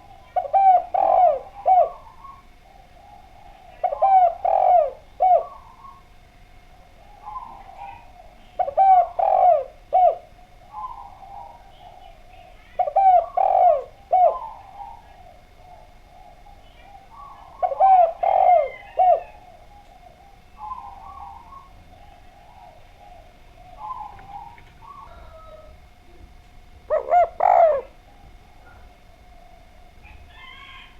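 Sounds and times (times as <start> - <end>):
dove cooing: 0.0 - 30.9
soft dove calls: 0.0 - 30.9.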